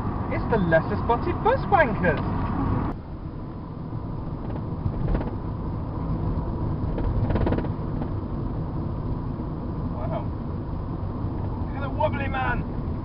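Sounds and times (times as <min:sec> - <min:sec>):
car road and engine rumble: 0:00.0 - 0:13.0
rattle inside car: 0:01.1 - 0:13.0.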